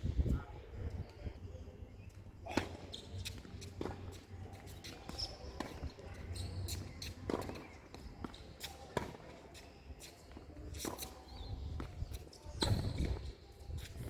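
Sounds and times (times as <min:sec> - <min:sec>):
tennis ball hitting racket and court: 0:02.4 - 0:13.9.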